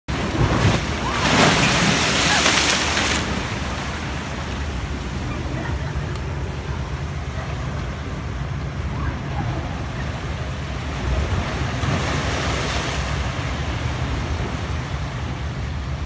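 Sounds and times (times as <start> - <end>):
water sloshing over quay: 0.1 - 16.0
wave crashing against seawall: 0.1 - 16.0.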